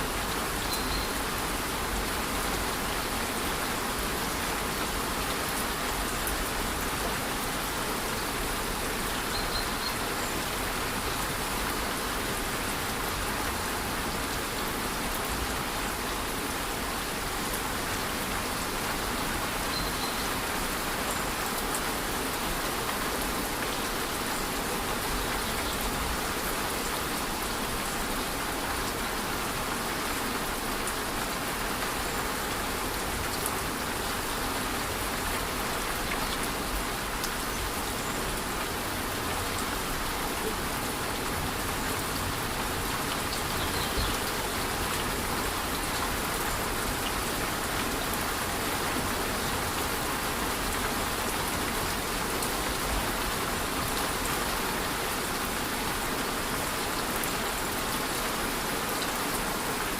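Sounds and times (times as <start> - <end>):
light rain: 0.0 - 59.9.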